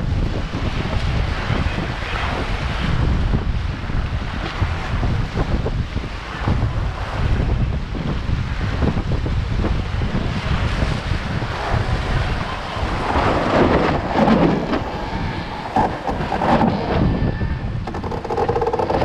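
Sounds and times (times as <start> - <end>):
water rushing along hull: 0.0 - 19.0
wind buffeting microphone: 0.0 - 19.0.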